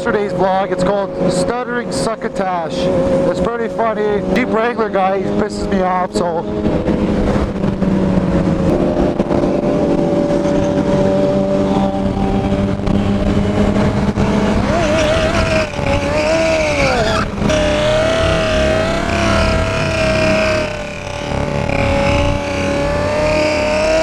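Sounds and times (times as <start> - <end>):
motorcycle engine running: 1.8 - 24.0.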